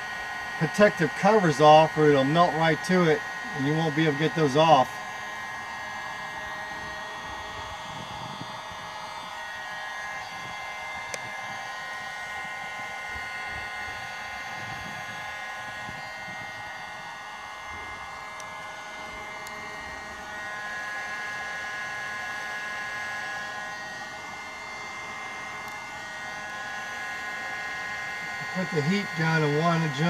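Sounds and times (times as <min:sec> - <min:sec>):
heat gun blowing with high whine: 0:00.0 - 0:30.0.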